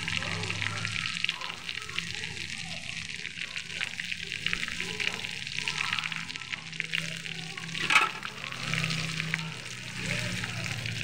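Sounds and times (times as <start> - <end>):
food deep-frying in sizzling oil: 0.0 - 11.0.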